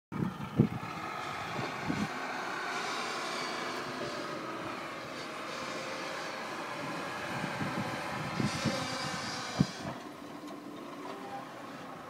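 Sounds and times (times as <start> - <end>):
truck engine droning: 0.1 - 12.0.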